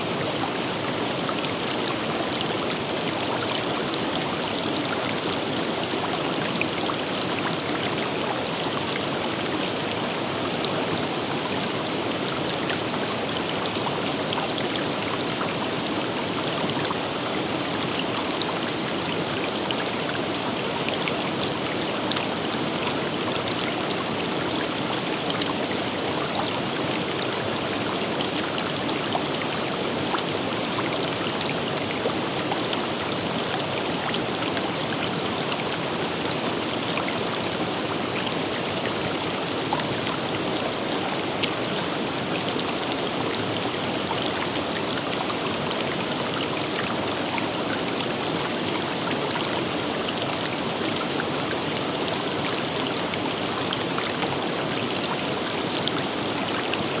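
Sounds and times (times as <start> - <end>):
river water running over rocks: 0.0 - 57.0.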